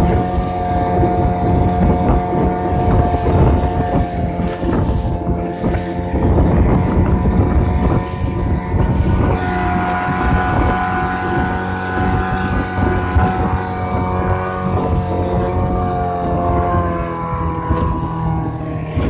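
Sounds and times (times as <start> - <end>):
outboard motor running: 0.0 - 19.0
wind and water rushing: 0.0 - 19.0.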